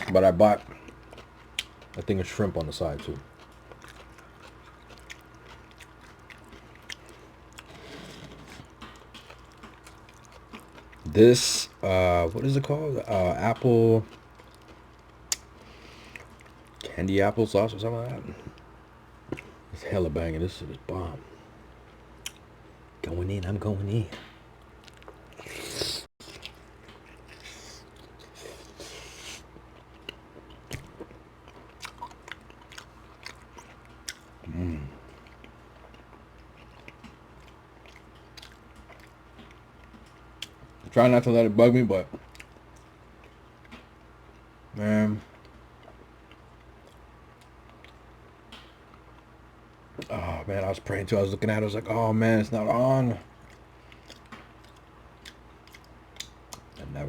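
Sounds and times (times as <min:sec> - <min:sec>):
person chewing meat: 0:00.0 - 0:11.8, 0:12.5 - 0:17.0, 0:18.3 - 0:19.7, 0:21.3 - 0:22.8, 0:24.6 - 0:40.9, 0:42.1 - 0:50.2, 0:53.2 - 0:56.8.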